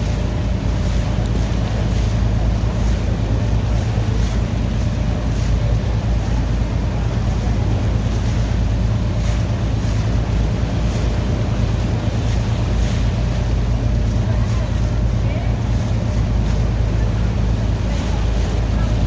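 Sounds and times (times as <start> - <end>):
boat engine running: 0.0 - 19.0
water splashing and rushing: 0.0 - 19.0.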